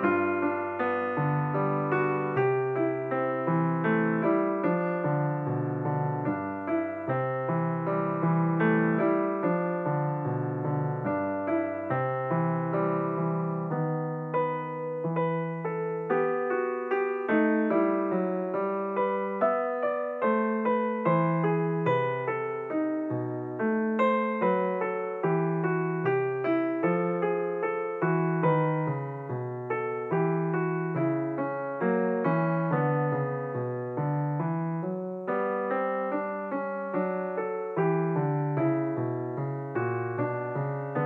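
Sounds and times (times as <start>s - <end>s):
piano music: 0.0s - 41.0s.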